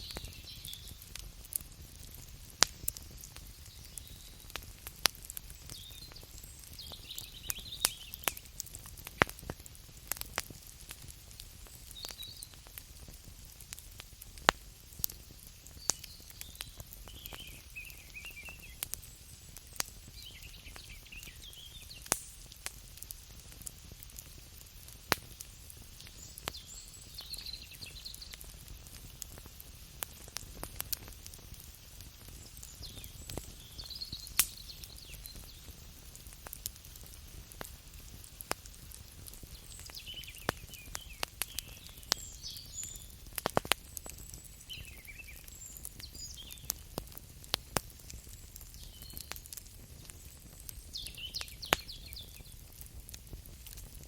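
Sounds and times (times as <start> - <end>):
low rumble of flames: 0.0 - 54.0
wood snapping in campfire: 0.0 - 54.0.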